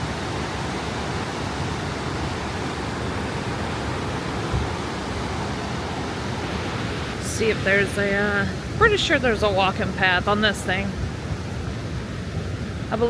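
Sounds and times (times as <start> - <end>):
rushing water rapids: 0.0 - 13.0.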